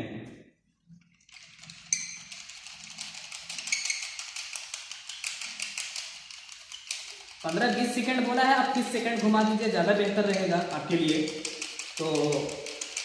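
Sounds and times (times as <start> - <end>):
spinning frame rattling and clicking: 0.9 - 13.0.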